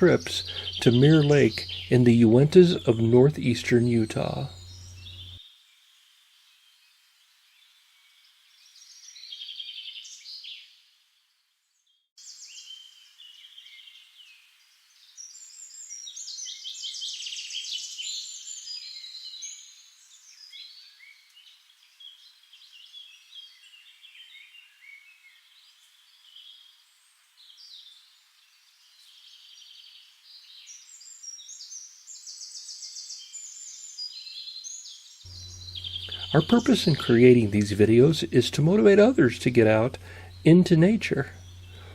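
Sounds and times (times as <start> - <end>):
songbirds chirping and trilling: 0.0 - 5.4, 6.4 - 10.8, 11.8 - 41.9.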